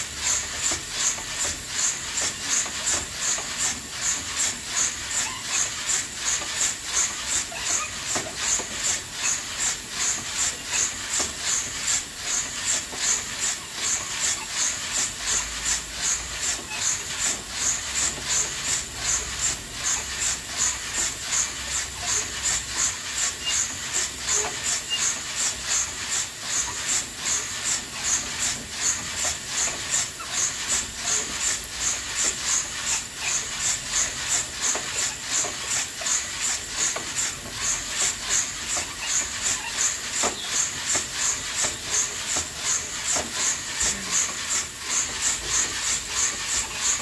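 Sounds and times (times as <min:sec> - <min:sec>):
coffee beans sizzling in roaster: 0:00.0 - 0:47.0.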